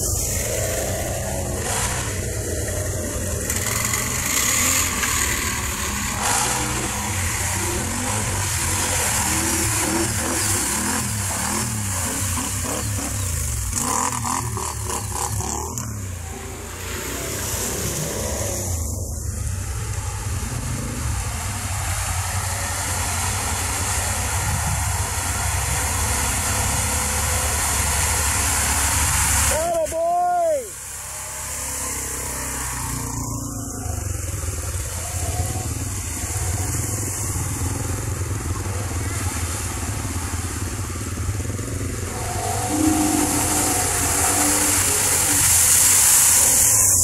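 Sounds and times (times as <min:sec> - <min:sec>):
atv engine running: 0:00.0 - 0:29.7, 0:30.7 - 0:47.0
steady high hiss: 0:00.0 - 0:47.0.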